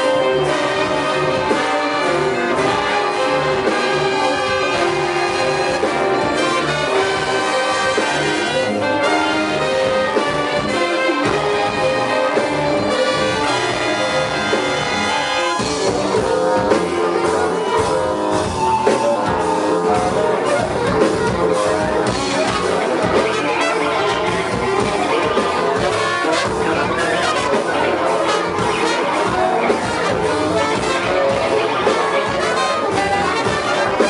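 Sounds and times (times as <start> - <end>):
live brass ensemble playing: 0.0 - 34.0.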